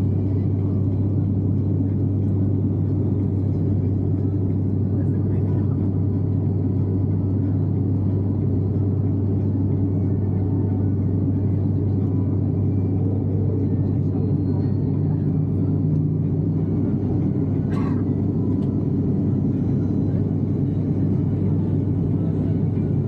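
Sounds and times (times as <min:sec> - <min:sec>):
propeller plane cabin drone: 0:00.0 - 0:23.0.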